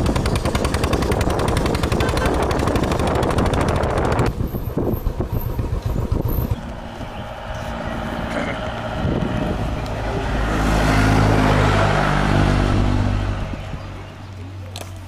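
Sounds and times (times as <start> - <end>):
vehicle passing by: 0.0 - 14.6.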